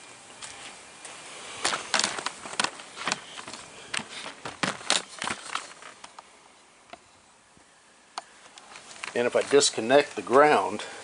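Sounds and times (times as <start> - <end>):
handling and movement noise: 0.4 - 7.3, 8.2 - 10.9.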